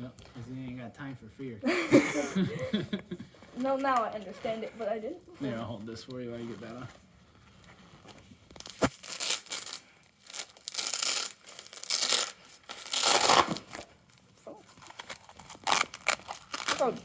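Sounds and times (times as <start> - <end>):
vinyl tearing and crinkling: 3.4 - 17.0.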